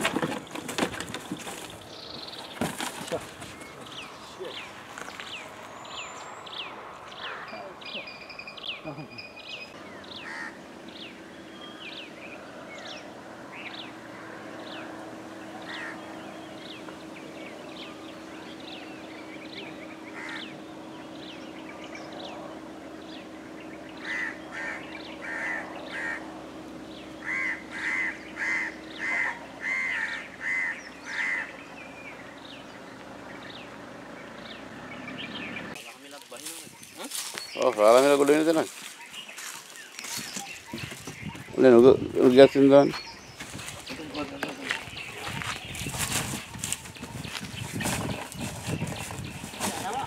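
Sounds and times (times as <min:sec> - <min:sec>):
loud repeated bird calls: 0:00.0 - 0:50.0
small birds chirping: 0:00.0 - 0:50.0.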